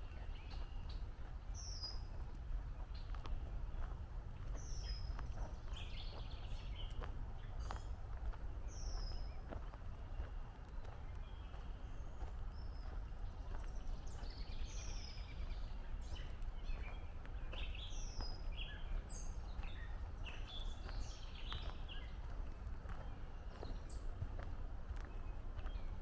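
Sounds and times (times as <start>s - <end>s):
footsteps on trail: 0.0s - 26.0s
songbirds chirping and whistling: 0.0s - 26.0s
steady low rumble: 0.0s - 26.0s.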